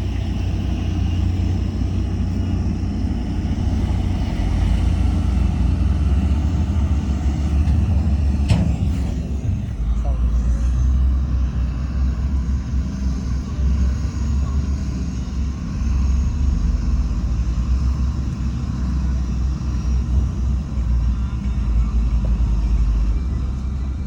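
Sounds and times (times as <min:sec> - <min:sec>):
heavy diesel engine rumbling: 0:00.0 - 0:24.0.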